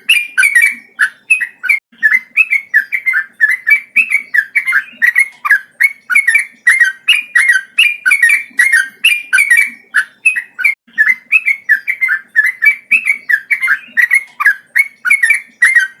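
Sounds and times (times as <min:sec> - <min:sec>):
bulbul singing: 0:00.0 - 0:16.0.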